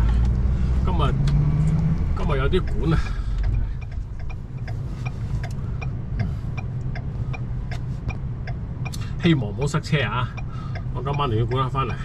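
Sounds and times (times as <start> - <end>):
car engine and road rumble: 0.0 - 12.0
turn signal ticking: 0.0 - 12.0.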